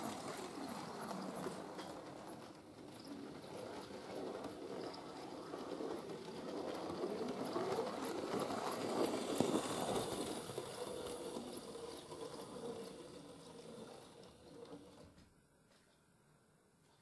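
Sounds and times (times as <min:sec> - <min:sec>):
model train running on track: 0:00.0 - 0:15.1.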